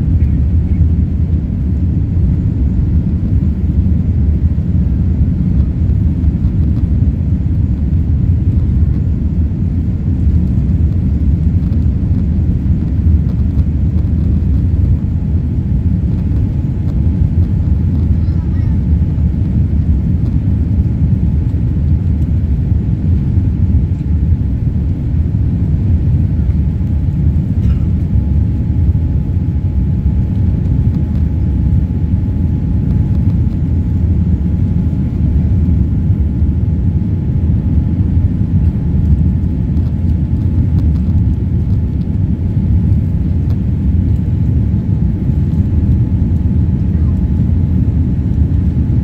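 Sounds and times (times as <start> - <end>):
faint steady whine: 0.0 - 49.0
jet engines rumbling in cabin: 0.0 - 49.0.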